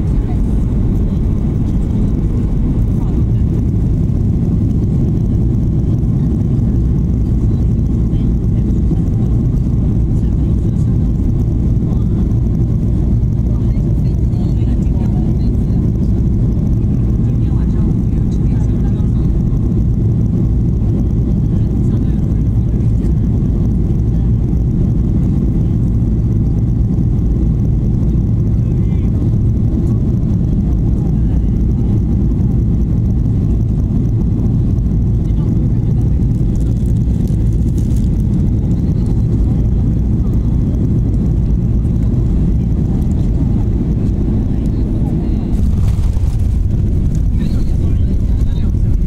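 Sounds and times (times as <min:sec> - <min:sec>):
airplane cabin rumble: 0:00.0 - 0:49.0.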